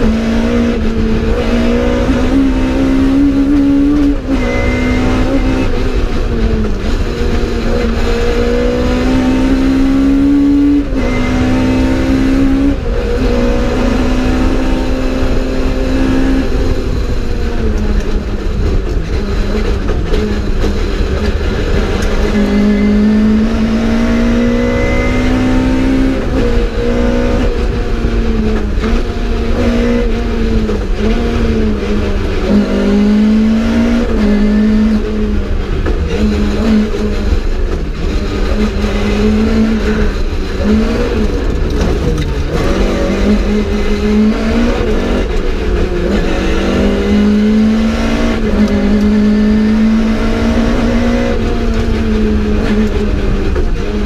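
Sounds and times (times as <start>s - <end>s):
rally car engine revving: 0.0s - 54.0s
road and drivetrain rumble: 0.0s - 54.0s.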